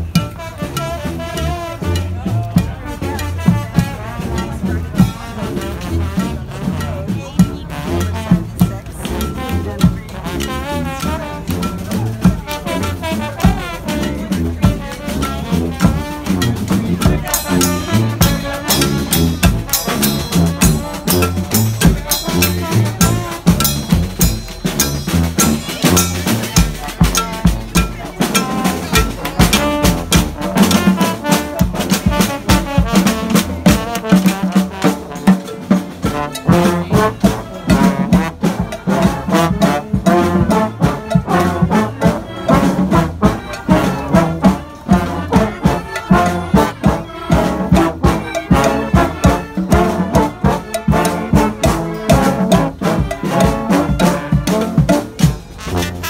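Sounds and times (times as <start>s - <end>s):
brass band playing: 0.0s - 56.0s
steady drum beat: 0.0s - 56.0s.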